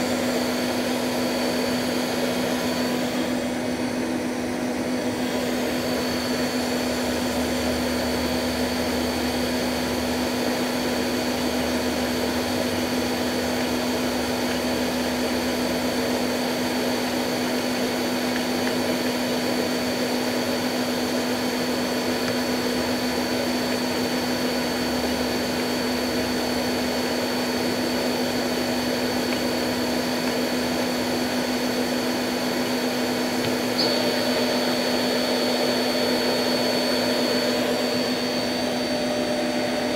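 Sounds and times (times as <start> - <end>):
machine mechanical hum: 0.0 - 39.9
thin high whine: 0.0 - 39.9.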